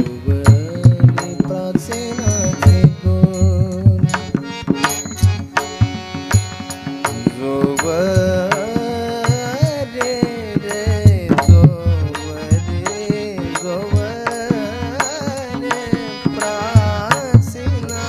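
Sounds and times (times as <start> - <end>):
man singing ornamented melody: 0.0 - 5.7, 7.0 - 18.0
harmonium: 0.0 - 18.0.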